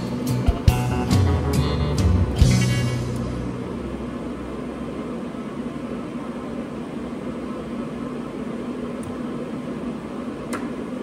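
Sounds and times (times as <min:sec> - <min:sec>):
steady whooshing hum: 0:00.0 - 0:11.0.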